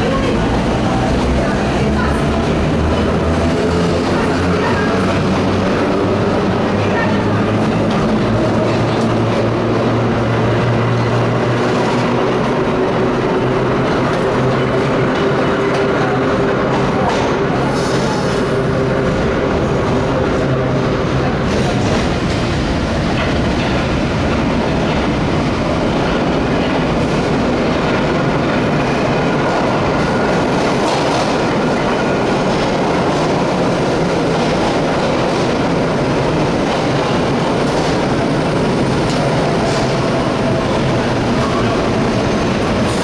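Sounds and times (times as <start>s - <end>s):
subway train wheels rumbling: 0.0s - 43.0s.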